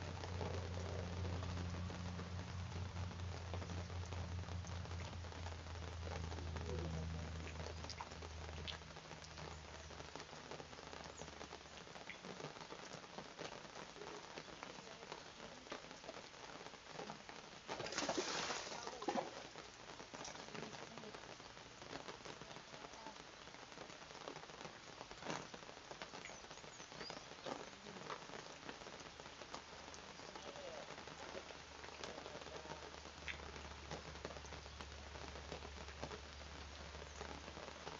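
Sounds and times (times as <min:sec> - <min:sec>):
rain pattering: 0:00.0 - 0:37.9.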